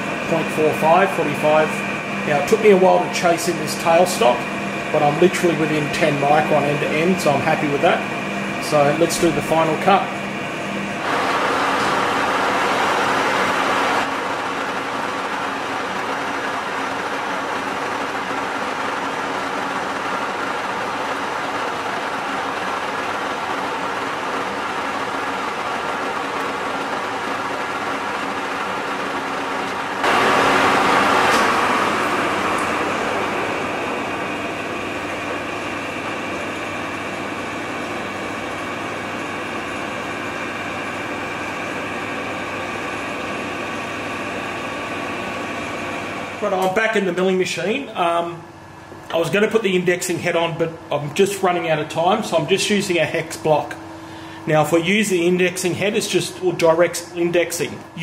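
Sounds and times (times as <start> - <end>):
metal lathe running: 0.0 - 58.0.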